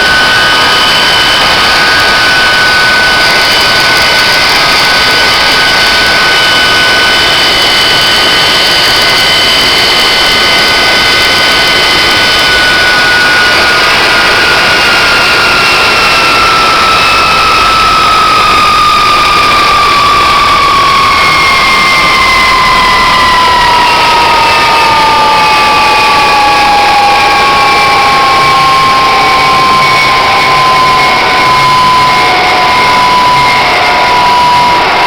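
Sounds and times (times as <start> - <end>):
jet engine roar with whine: 0.0 - 35.0.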